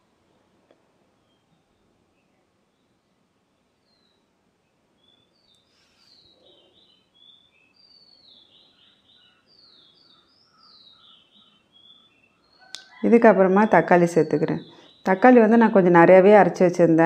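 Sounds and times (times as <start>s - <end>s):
faint bird chirps and whistles: 1.2s - 15.3s.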